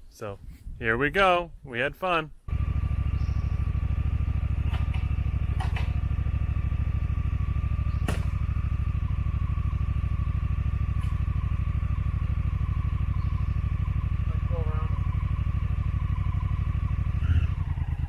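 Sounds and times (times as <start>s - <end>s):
motorcycle engine idling: 2.5s - 18.0s.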